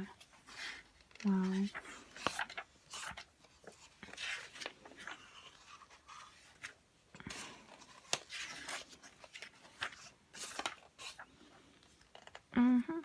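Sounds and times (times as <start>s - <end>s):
magazine pages rustling: 0.0s - 12.5s.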